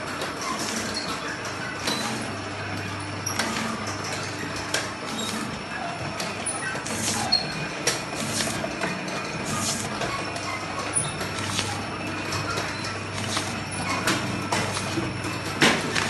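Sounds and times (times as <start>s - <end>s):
machine motor and conveyor: 0.0s - 16.0s.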